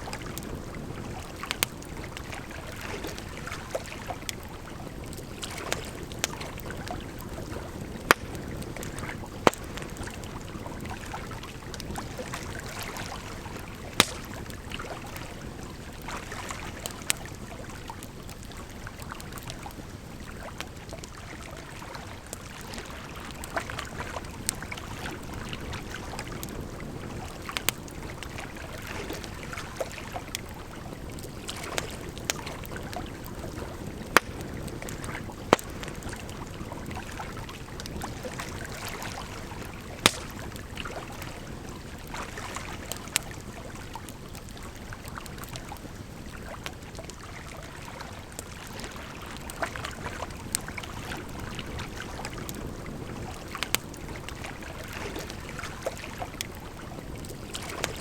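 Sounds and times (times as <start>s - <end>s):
campfire crackling and popping: 0.0s - 58.0s
flowing water: 0.0s - 58.0s.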